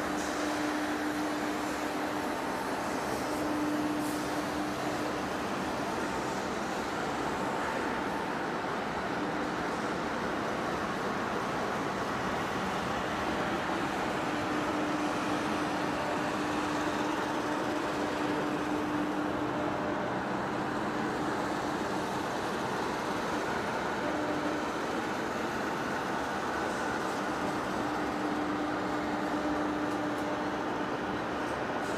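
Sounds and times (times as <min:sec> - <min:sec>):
lathe mechanical drone: 0:00.0 - 0:31.9.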